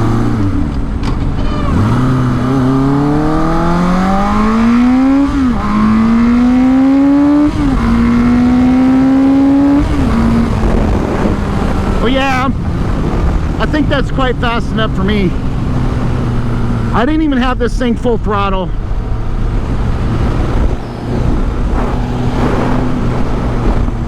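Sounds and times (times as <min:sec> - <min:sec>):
motorcycle engine revving through gears: 0:00.0 - 0:17.0, 0:18.8 - 0:24.0.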